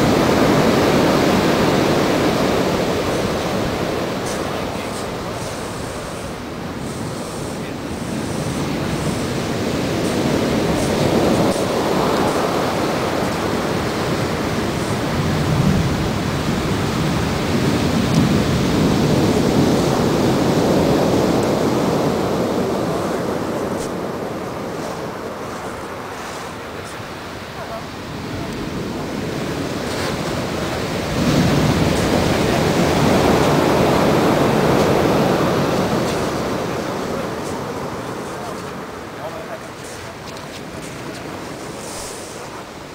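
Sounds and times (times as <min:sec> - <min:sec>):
surf breaking on a beach: 0:00.0 - 0:42.9.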